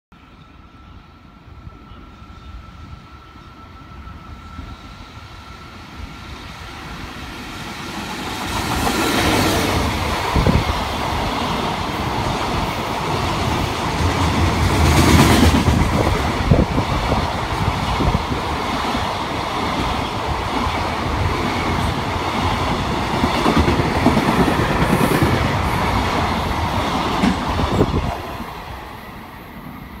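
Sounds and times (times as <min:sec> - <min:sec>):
freight train passing: 0:00.1 - 0:30.0.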